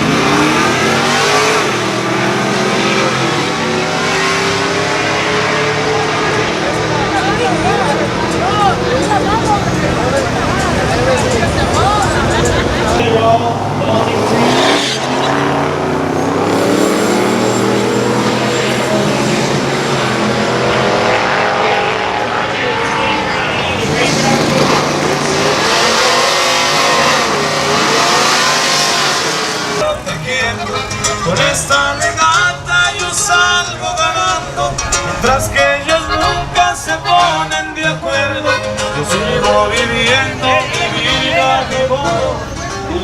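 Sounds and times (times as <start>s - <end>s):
truck engine revving: 0.0s - 43.0s.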